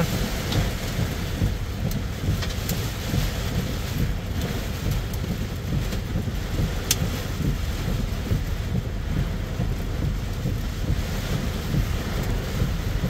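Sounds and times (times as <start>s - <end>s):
gusting wind rumble: 0.0s - 13.0s
heavy rain on vehicle roof: 0.0s - 13.0s
sharp raindrop hits: 0.0s - 13.0s.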